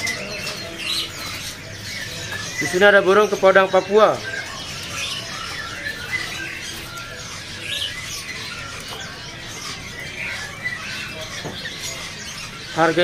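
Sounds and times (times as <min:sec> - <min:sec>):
songbirds chirping and whistling: 0:00.0 - 0:13.0.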